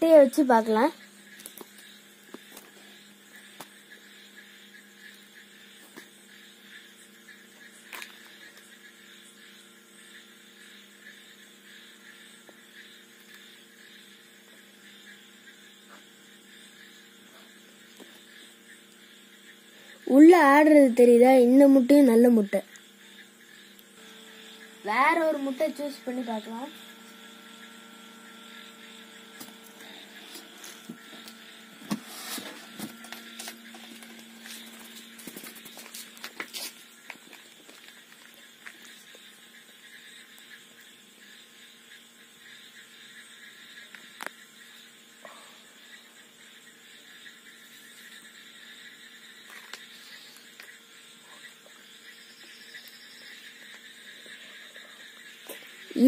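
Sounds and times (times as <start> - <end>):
faint electrical hum: 0.0 - 56.0.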